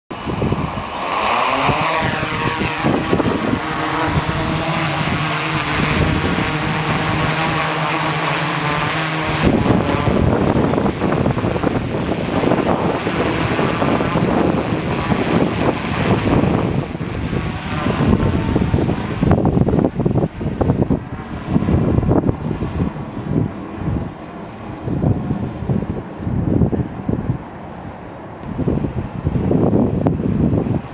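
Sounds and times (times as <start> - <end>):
drone propellers whining: 0.1 - 30.9
rough rushing noise: 0.1 - 30.9.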